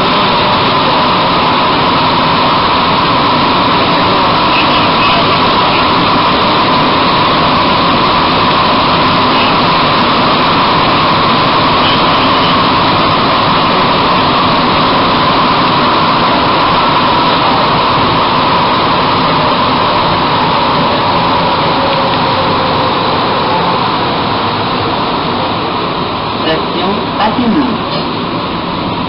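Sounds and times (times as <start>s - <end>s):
metro train running in tunnel: 0.0s - 29.0s.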